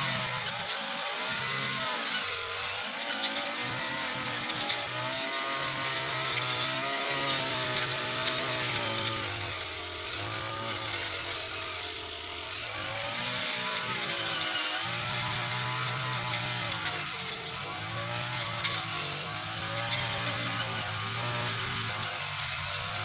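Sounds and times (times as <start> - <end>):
brush cutter engine running: 0.0 - 23.0.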